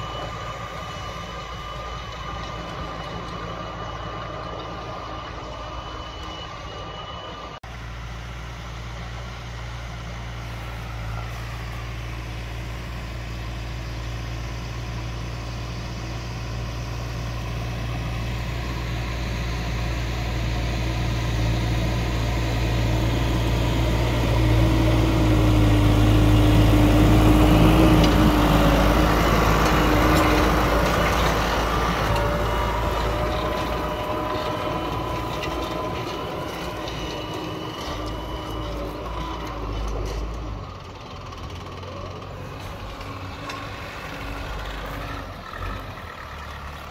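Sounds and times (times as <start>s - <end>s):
tractor engine running under load: 0.0s - 46.9s.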